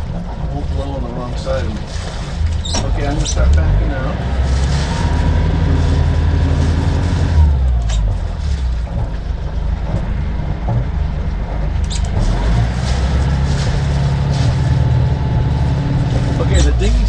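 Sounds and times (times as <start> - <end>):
diesel boat engine running: 0.0 - 17.0.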